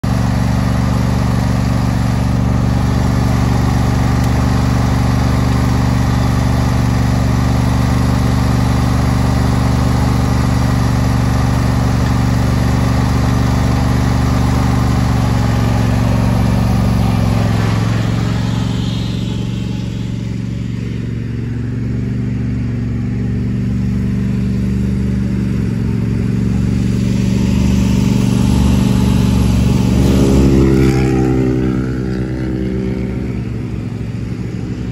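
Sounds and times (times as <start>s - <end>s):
riding mower engine running: 0.0s - 34.9s.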